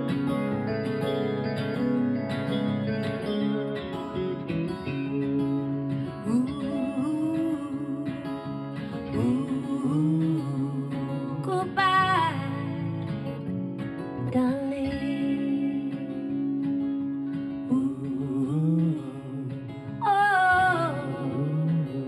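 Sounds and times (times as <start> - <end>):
acoustic guitars playing slow song: 0.0 - 22.0.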